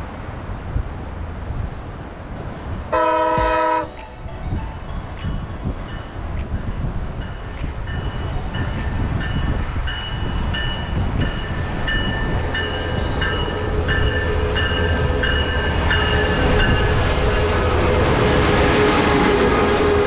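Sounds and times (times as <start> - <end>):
train rumble and hiss: 0.0 - 20.0
locomotive bell ringing: 3.3 - 20.0.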